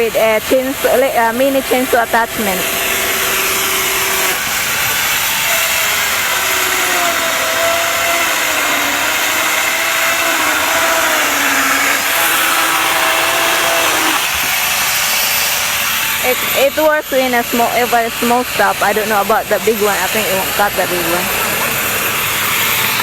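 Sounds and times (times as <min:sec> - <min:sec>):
angle grinder chainsaw cutting wood: 0:00.0 - 0:23.0.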